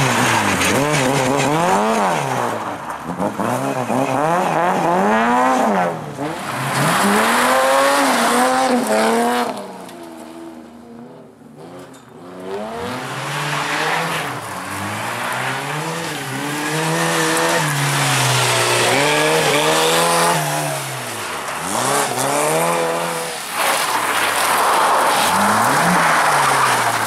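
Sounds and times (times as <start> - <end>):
race car engine revving: 3.2 - 27.0.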